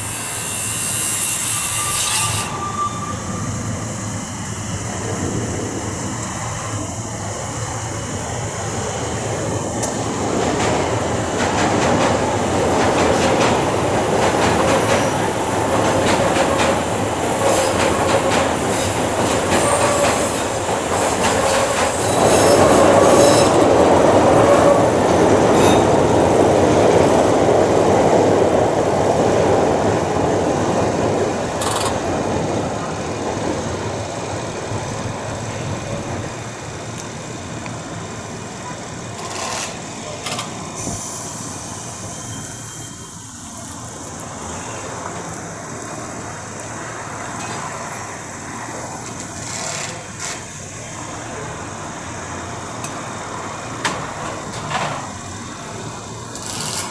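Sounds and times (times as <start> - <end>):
train wheels clattering and squealing: 0.0 - 36.8, 38.6 - 45.8, 47.2 - 51.4, 52.2 - 56.9.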